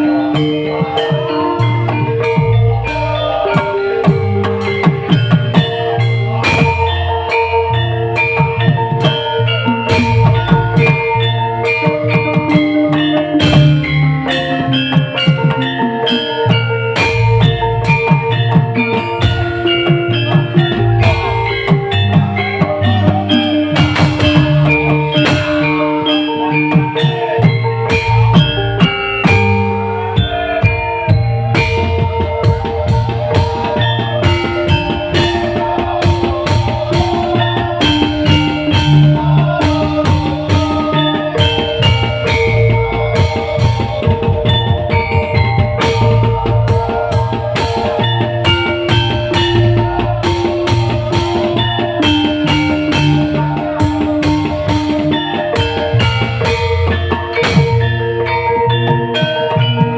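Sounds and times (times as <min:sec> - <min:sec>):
drum kit beat: 0:00.0 - 0:59.9
live band playing: 0:00.0 - 0:59.9.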